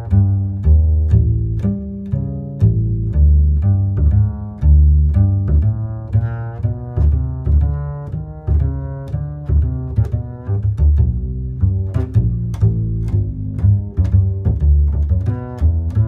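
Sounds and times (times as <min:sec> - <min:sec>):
deep bass line: 0:00.0 - 0:16.0.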